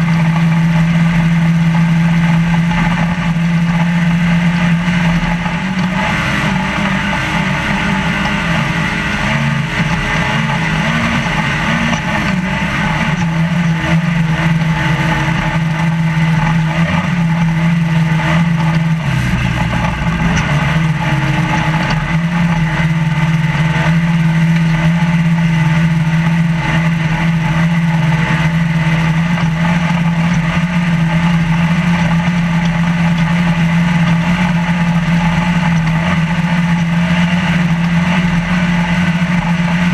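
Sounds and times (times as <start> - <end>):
rattling in truck cab: 0.0 - 39.9
truck bouncing over rough ground: 0.0 - 39.9
truck engine running hard: 0.0 - 39.9.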